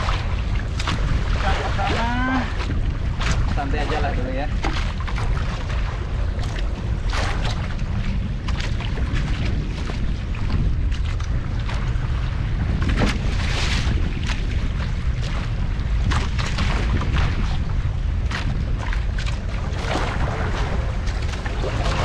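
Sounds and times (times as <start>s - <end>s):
knocks and slaps against hull: 0.0s - 12.0s, 12.6s - 22.0s
wind rumble on microphone: 0.0s - 22.0s.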